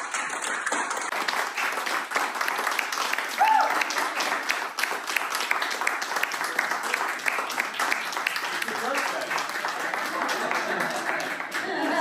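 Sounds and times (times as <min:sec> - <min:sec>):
people clapping: 0:00.0 - 0:12.0.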